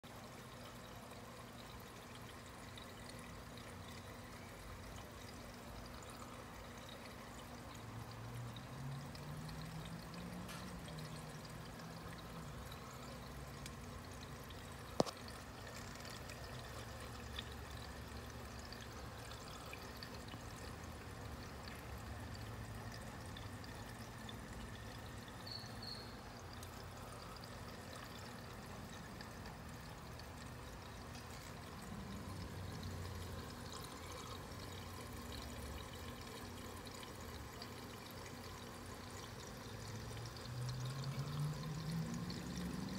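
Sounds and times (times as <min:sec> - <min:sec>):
aquarium water trickling: 0:00.0 - 0:42.9.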